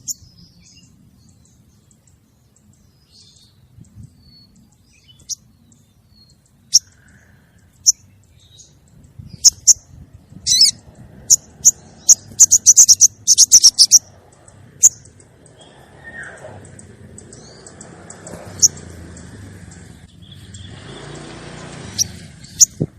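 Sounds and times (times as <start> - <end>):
bird trill: 0.0 - 22.9
bird high sharp chirps: 2.6 - 22.9.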